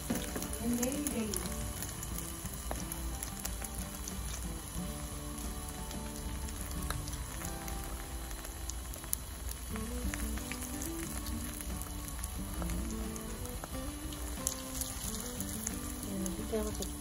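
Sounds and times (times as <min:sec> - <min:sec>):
food sizzling in hot oil: 0:00.0 - 0:17.0
soft background music: 0:00.0 - 0:17.0.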